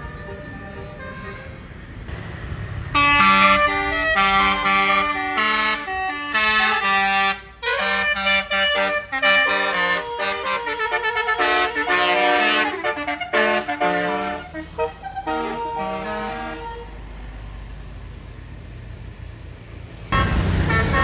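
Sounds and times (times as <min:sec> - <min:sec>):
multi-tone bus horn tune: 0:00.0 - 0:17.1, 0:20.1 - 0:21.0.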